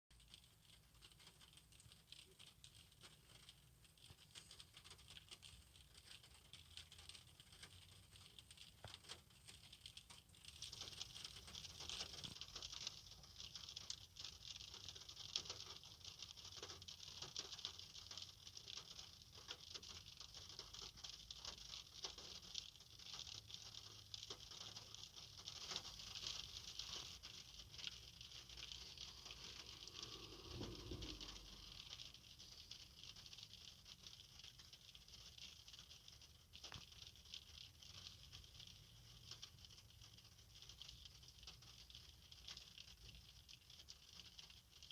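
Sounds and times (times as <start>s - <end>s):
rain pattering on windshield: 0.1s - 44.9s.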